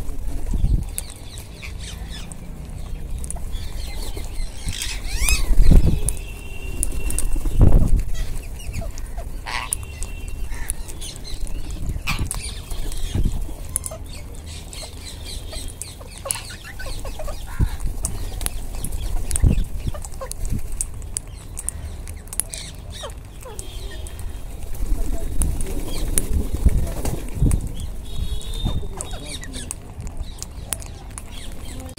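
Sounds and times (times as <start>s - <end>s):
parakeet calls and clicks: 0.4s - 24.8s, 27.4s - 31.9s.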